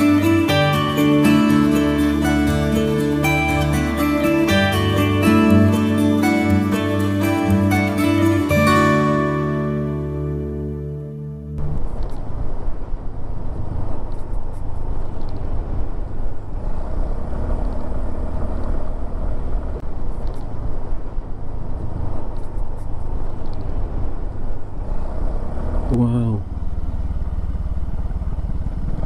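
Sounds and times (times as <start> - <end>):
vehicle road rumble: 0.0 - 29.0.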